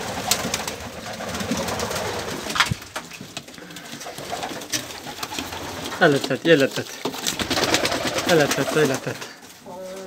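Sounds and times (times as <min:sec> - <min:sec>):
pigeons cooing: 0:00.0 - 0:02.8, 0:03.5 - 0:06.4, 0:07.2 - 0:10.0.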